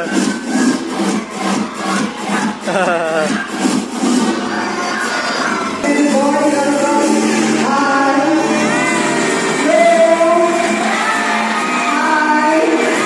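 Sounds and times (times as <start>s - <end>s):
backing track over loudspeakers: 0.0s - 13.0s.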